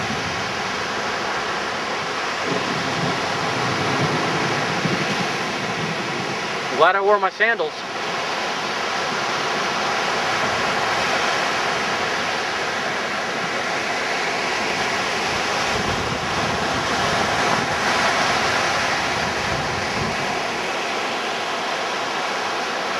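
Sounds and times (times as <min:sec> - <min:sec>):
wind on microphone: 0:00.0 - 0:06.8, 0:07.8 - 0:21.8
surf breaking on beach: 0:00.0 - 0:22.9.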